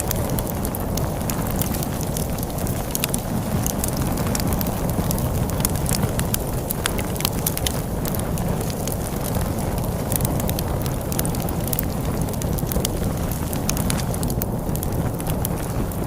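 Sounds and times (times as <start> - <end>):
log fire crackling: 0.0 - 16.0
storm wind rushing: 0.0 - 16.0.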